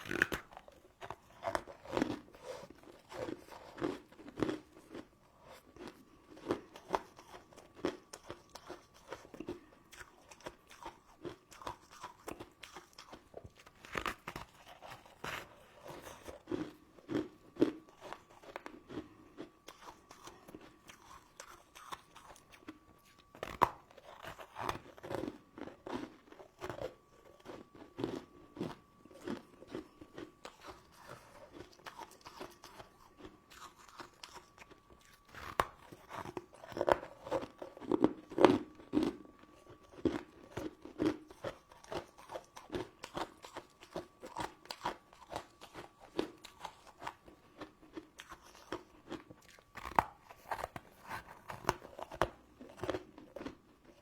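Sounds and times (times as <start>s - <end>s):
candy crunching and chewing: 0.0s - 54.0s.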